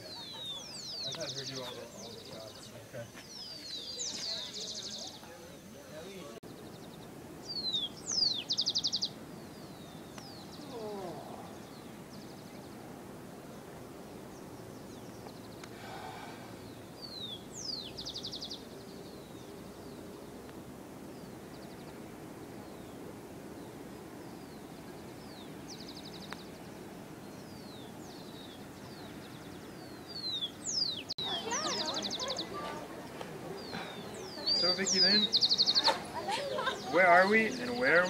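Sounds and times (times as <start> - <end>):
songbirds calling: 0.0 - 38.0
steady background hiss: 0.0 - 38.0.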